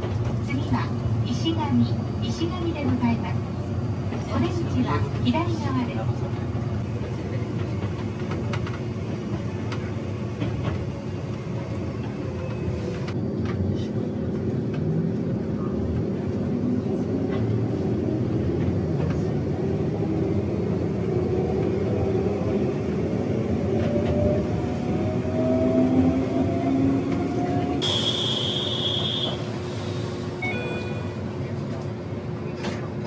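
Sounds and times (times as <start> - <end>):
train running rumble: 0.0 - 30.4.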